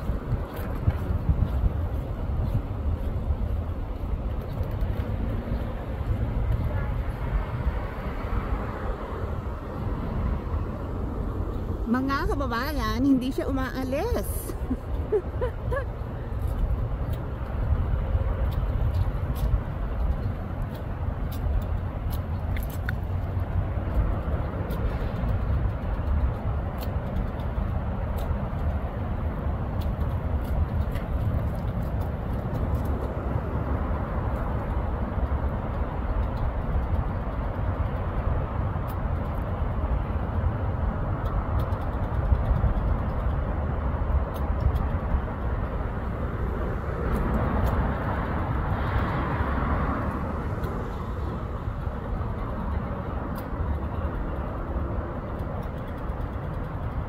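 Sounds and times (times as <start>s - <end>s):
outdoor background rumble and hiss: 0.0s - 57.0s.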